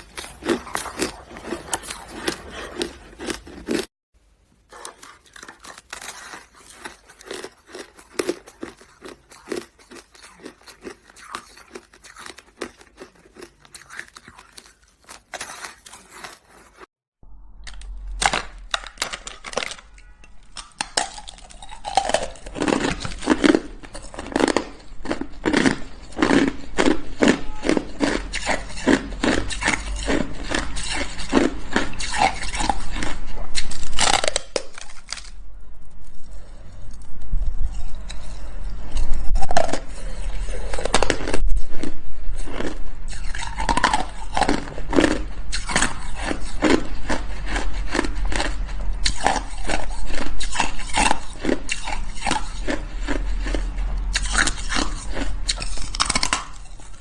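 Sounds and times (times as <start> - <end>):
shaved ice being chewed: 0.0 - 3.9, 4.7 - 16.9, 17.6 - 57.0.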